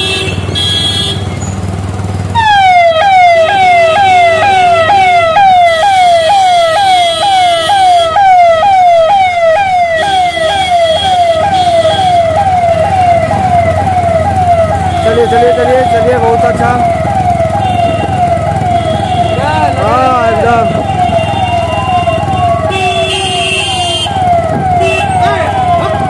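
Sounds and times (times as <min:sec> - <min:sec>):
engine running: 0:00.0 - 0:26.0
electronic siren yelping: 0:02.3 - 0:26.0.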